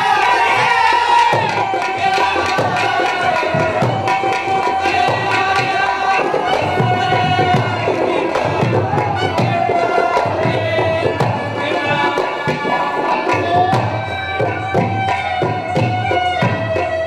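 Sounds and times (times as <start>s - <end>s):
drum beating steady rhythm: 0.0s - 17.0s.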